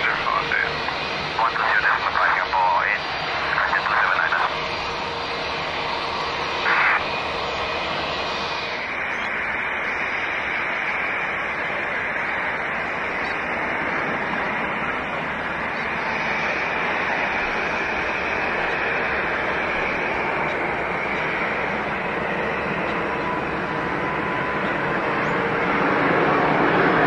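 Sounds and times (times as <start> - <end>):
jet engines: 0.0 - 27.0.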